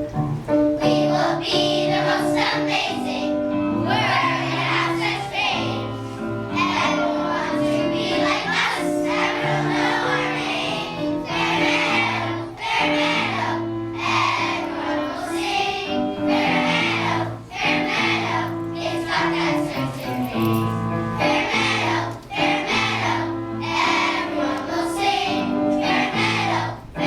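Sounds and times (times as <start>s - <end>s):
children singing together: 0.0s - 27.0s
musical accompaniment: 0.0s - 27.0s.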